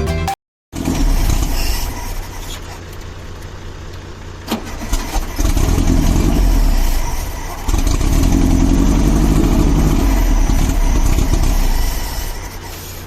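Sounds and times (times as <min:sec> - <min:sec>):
car engine under throttle: 0:00.7 - 0:13.0.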